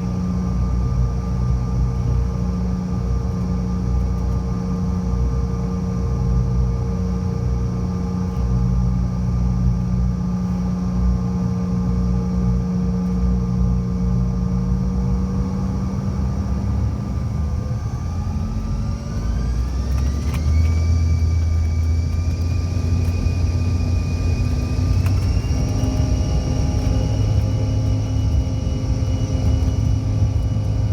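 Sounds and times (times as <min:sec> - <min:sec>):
jet engine whine: 0:00.0 - 0:30.9
low engine rumble: 0:00.0 - 0:30.9.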